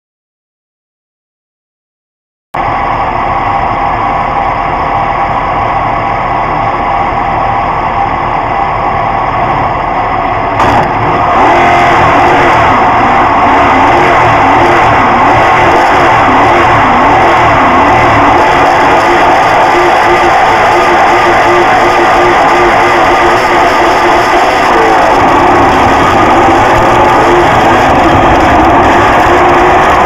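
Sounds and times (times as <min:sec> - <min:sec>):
car engine revving: 0:02.7 - 0:30.0.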